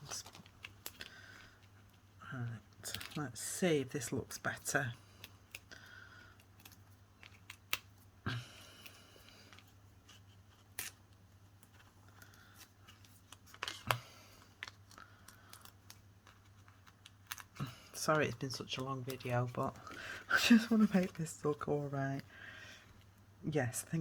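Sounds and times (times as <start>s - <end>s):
soft paper rustles: 0.0s - 24.0s.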